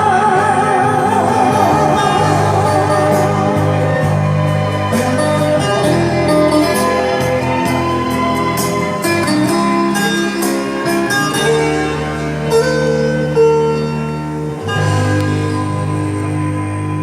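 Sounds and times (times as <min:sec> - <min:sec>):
instrumental karaoke backing music: 0:00.0 - 0:17.0
plucked-string melody: 0:00.0 - 0:17.0.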